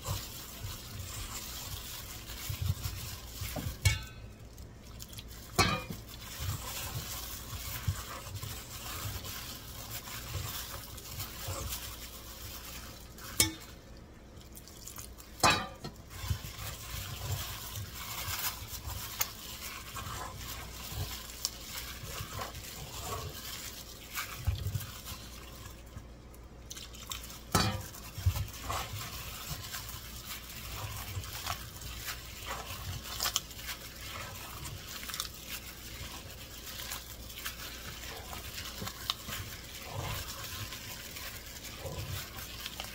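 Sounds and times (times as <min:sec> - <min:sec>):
wet squishing of batter mixing: 0:00.0 - 0:42.9.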